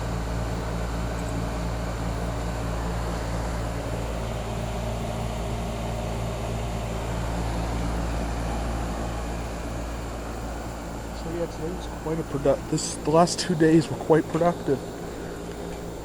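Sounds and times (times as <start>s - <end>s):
compressor humming: 0.0s - 16.0s
fan moving air: 0.0s - 16.0s.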